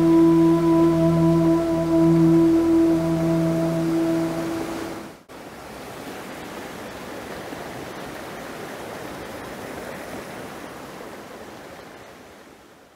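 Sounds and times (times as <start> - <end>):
waterfall rushing: 0.0 - 11.0
rocky mountain stream: 2.3 - 12.9.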